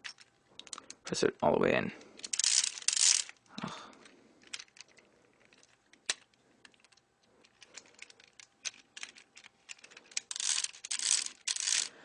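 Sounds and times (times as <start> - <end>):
plastic toy gears clicking: 0.0 - 1.0, 2.2 - 3.4, 4.0 - 12.0.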